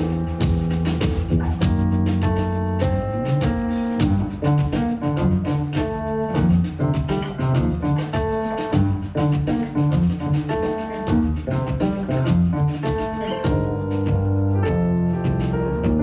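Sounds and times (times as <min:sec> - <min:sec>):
drum kit cymbals: 0:00.0 - 0:14.6
double bass line: 0:00.0 - 0:16.0
instrumental jazz: 0:00.0 - 0:16.0.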